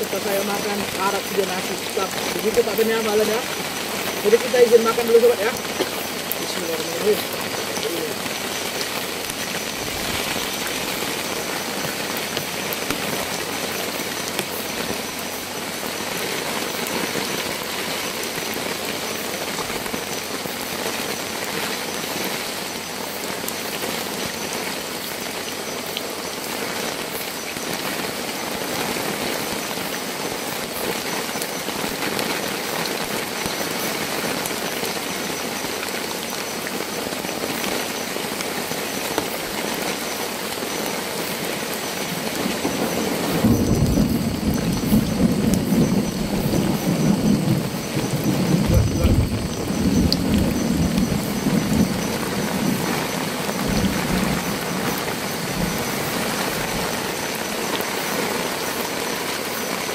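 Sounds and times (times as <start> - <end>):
heavy rain falling: 0.0 - 59.9
raindrops ticking on shelter: 0.0 - 59.9.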